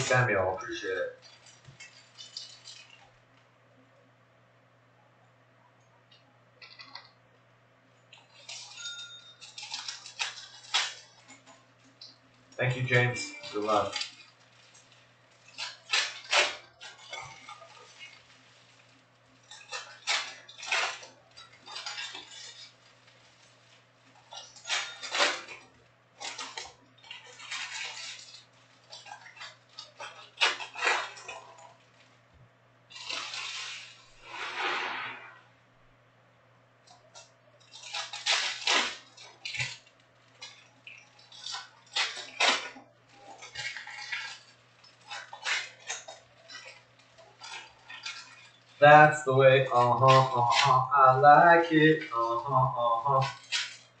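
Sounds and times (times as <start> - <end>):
foil wrappers crinkling and tearing: 0.0 - 3.5, 8.1 - 35.0, 36.9 - 54.0.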